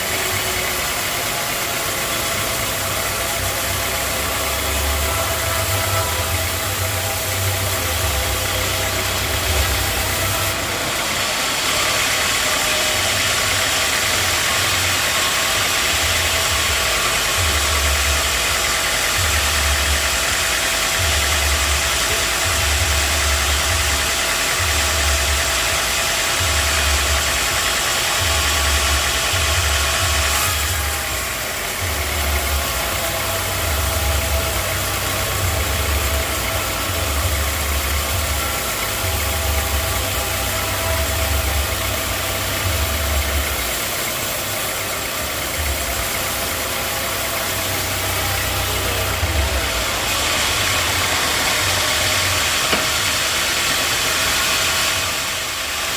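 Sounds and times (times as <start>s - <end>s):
constant machine hiss: 0.0s - 55.9s
engine throbbing: 0.0s - 55.9s.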